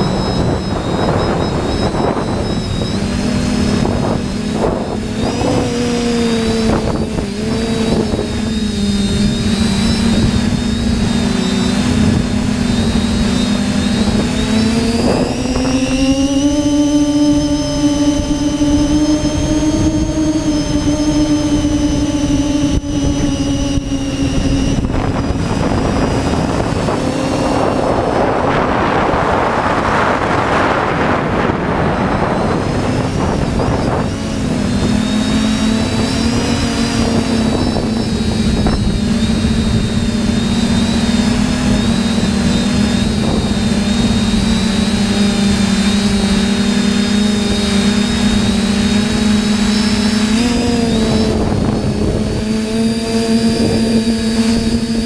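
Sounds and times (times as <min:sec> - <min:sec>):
quadcopter propellers whining: 0:00.0 - 0:55.0
wind noise: 0:00.0 - 0:55.0.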